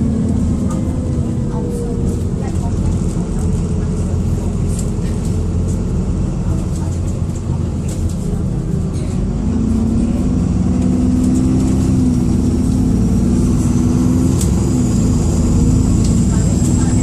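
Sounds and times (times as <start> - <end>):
bus engine pulling under load: 0.0 - 17.0.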